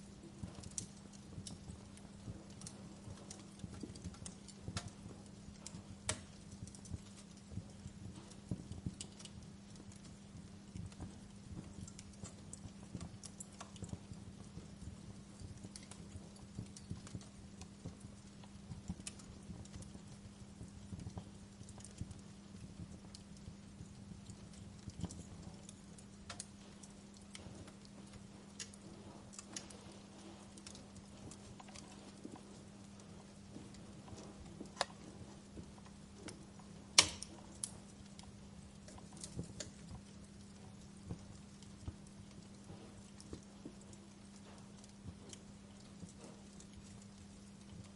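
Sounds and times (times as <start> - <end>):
faint low hum: 0.0 - 47.9
wood fire crackling: 0.0 - 47.9
sharp pops and snaps: 0.1 - 47.9.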